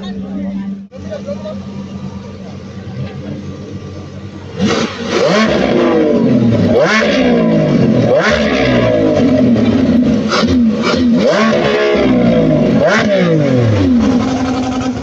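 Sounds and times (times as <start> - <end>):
car engine revving hard: 1.0 - 15.0.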